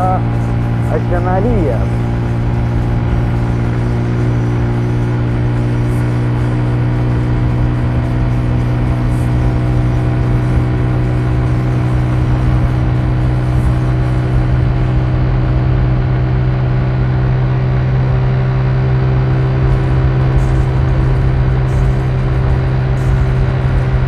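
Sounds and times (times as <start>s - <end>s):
car engine drone: 0.0s - 24.0s.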